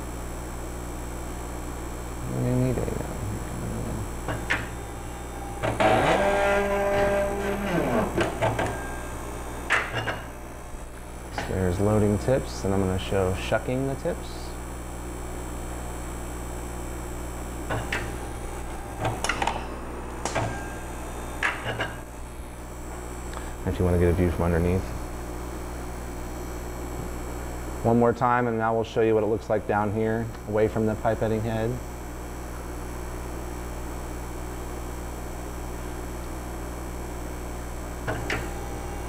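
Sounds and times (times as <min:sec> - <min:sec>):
machine low hum: 0:00.0 - 0:39.0.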